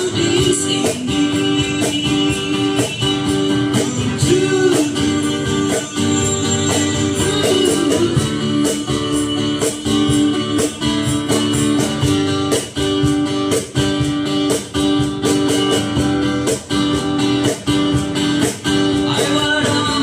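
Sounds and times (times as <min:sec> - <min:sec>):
guitar strumming chords: 0:00.0 - 0:20.0.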